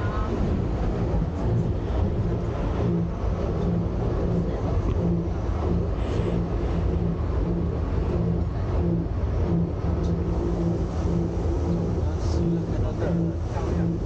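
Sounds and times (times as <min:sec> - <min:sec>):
electric train rumble with pulsing hum: 0:00.0 - 0:14.0.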